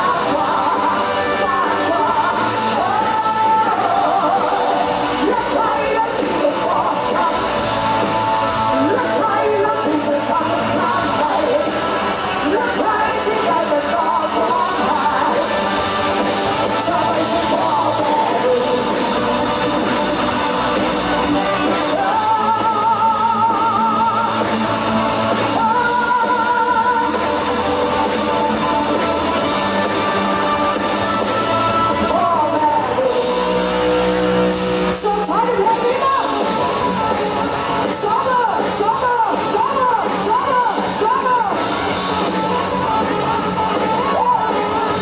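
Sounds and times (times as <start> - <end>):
woman singing into a microphone: 0.0 - 8.0, 8.7 - 19.1, 21.4 - 33.5, 34.9 - 45.0
electric guitar: 0.0 - 45.0.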